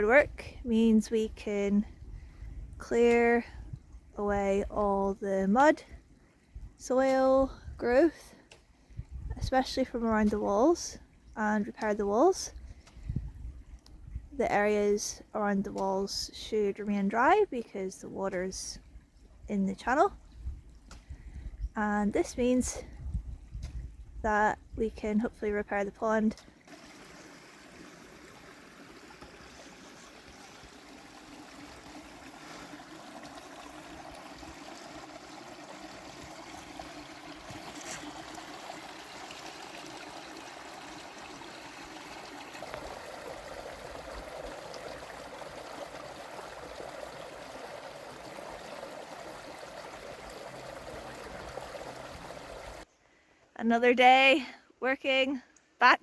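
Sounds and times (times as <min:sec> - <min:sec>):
water running along a trench: 0:00.0 - 0:52.9.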